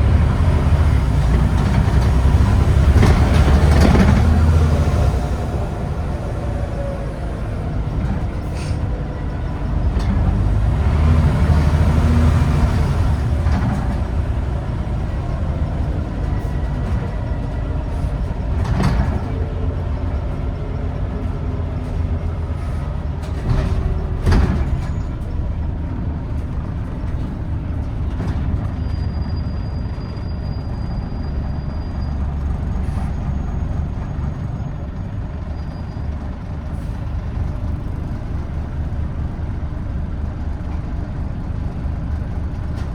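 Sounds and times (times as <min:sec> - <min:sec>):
bus engine and road rumble: 0:00.0 - 0:42.9.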